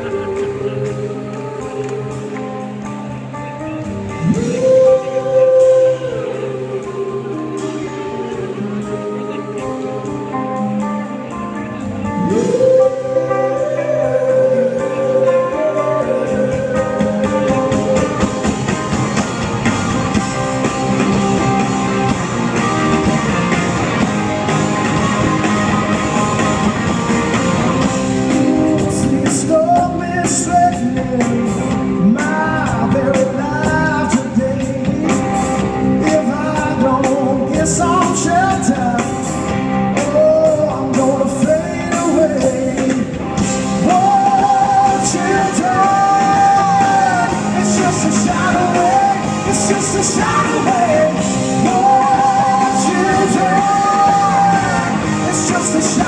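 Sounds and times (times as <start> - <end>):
person singing: 0.0 - 24.1, 28.2 - 39.3, 39.9 - 56.0
drums: 0.0 - 56.0
electric guitars: 0.0 - 56.0.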